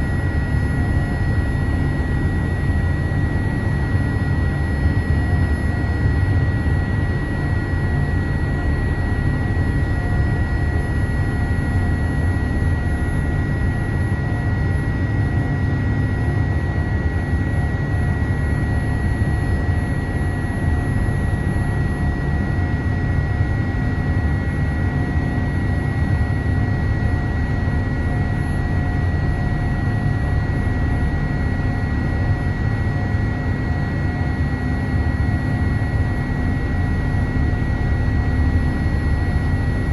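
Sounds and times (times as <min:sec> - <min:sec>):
low rumble of jet engines: 0:00.0 - 0:39.9.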